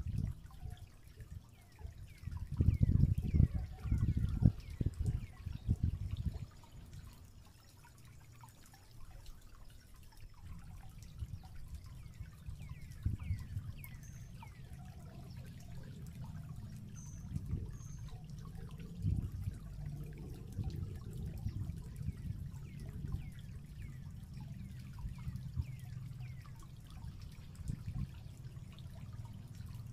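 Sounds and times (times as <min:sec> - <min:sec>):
water trickling softly: 0:00.0 - 0:29.9.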